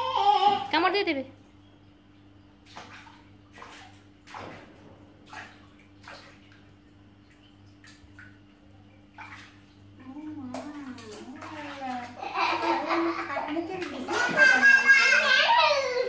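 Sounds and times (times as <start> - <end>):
soft water splashes: 0.4 - 16.0.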